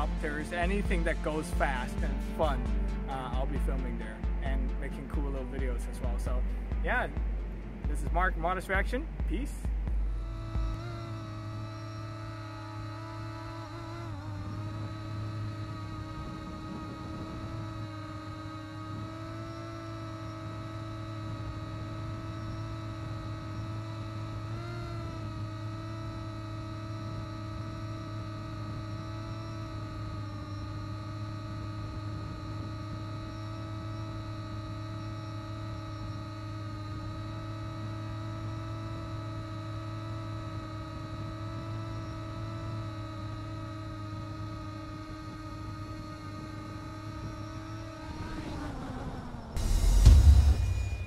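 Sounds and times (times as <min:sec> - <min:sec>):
drone propellers humming: 0:00.0 - 0:51.0.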